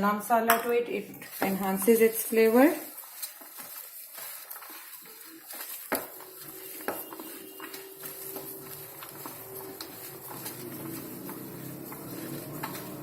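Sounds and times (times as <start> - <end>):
spoon scraping a mixing bowl: 0.6 - 13.0.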